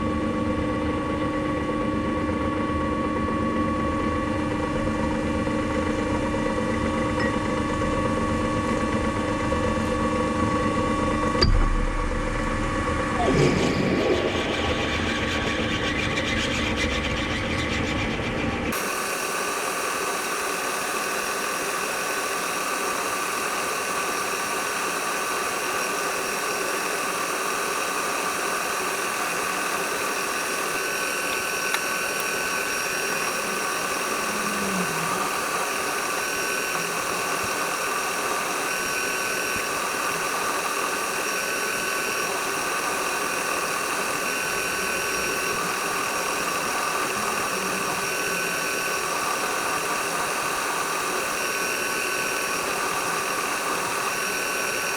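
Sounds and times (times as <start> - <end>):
electric motor whining: 5.9 - 54.9.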